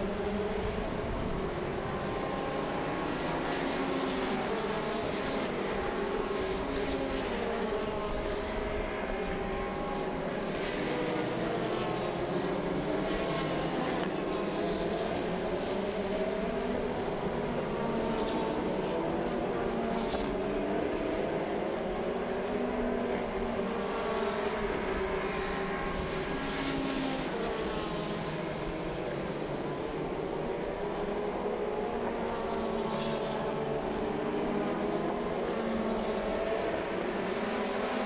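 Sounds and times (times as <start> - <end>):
race car engines passing: 0.0 - 38.0.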